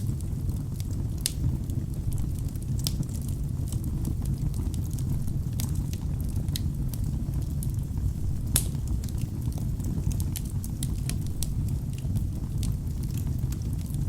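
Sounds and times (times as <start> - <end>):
wood fire rumbling and crackling: 0.0 - 14.0.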